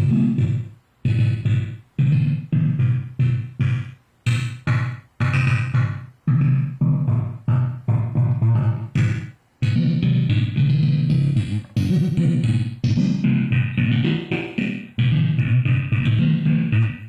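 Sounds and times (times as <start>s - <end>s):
buzzy synthesizer notes: 0.0s - 17.0s.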